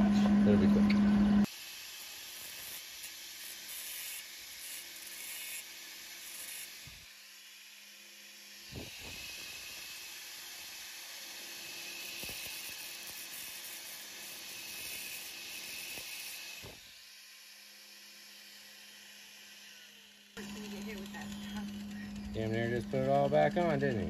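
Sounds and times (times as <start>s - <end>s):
welding arc sizzling: 0.0s - 24.0s.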